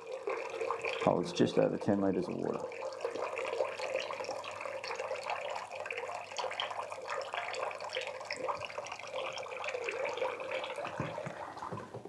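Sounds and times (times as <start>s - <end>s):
water splashing into bucket: 0.0s - 12.0s.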